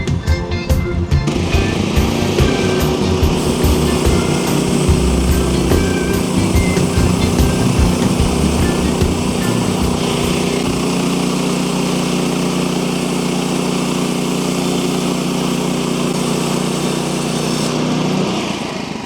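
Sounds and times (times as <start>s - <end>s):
sawmill engine running: 1.2s - 19.0s.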